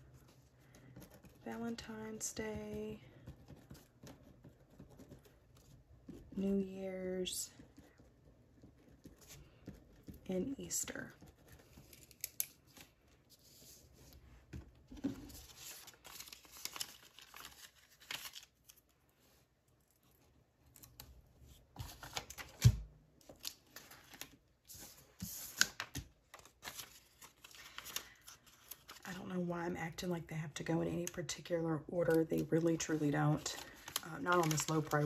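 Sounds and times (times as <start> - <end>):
envelopes and pages rustling: 0.0 - 29.6, 30.9 - 35.0.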